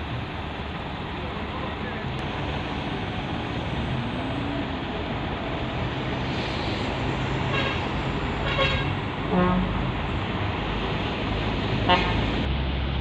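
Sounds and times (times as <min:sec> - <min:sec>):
truck engines running: 0:00.0 - 0:13.0.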